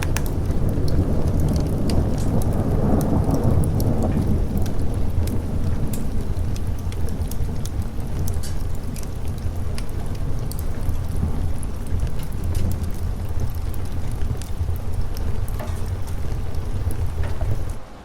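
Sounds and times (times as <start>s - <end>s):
low rolling thunder: 0.0s - 17.8s
sharp crackles: 0.0s - 17.8s
steady rain: 0.0s - 18.0s.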